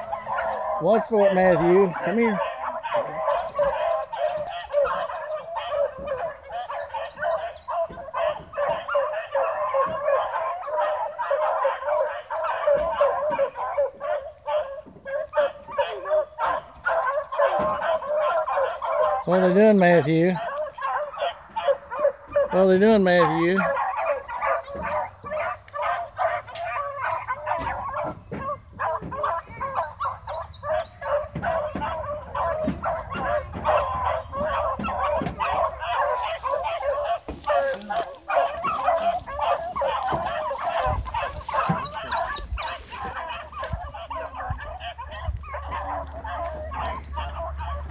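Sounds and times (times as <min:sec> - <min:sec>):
pack of dogs baying: 0:00.0 - 0:47.9.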